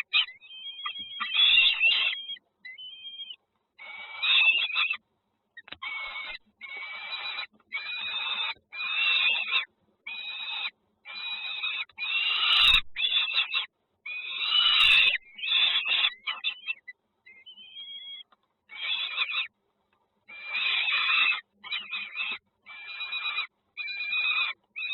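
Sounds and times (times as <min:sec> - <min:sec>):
nestlings begging with raspy calls: 0:00.0 - 0:05.0, 0:05.6 - 0:19.6, 0:20.3 - 0:24.9.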